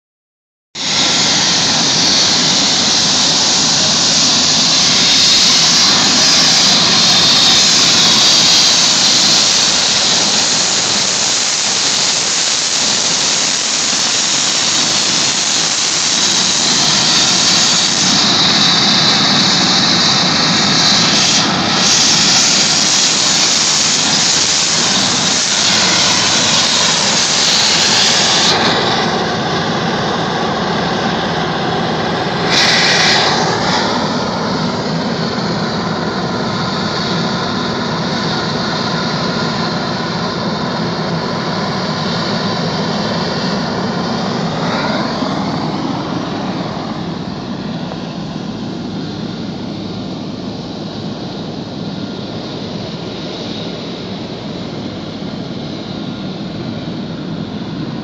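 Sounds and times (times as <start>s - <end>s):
helicopter turbine and rotor noise: 0.8s - 58.0s.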